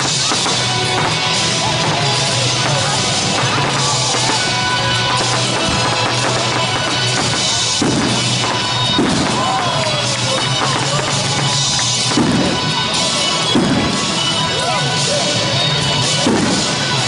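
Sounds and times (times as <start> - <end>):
fireworks bursting and crackling: 0.0 - 17.0
music with drum beat: 0.0 - 17.0.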